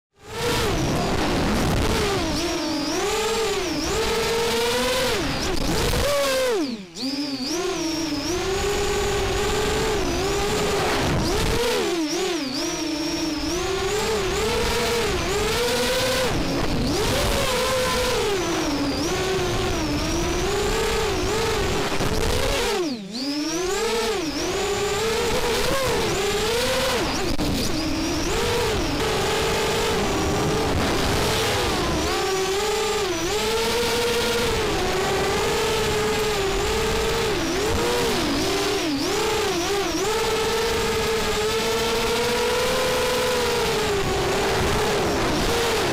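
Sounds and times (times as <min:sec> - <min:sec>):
quadcopter motors whining: 0:00.2 - 0:45.9.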